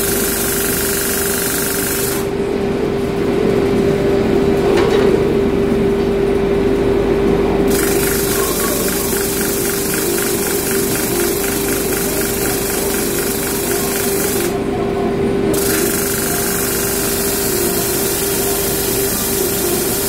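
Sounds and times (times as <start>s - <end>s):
electric motor hum: 0.0s - 4.7s, 6.4s - 20.0s.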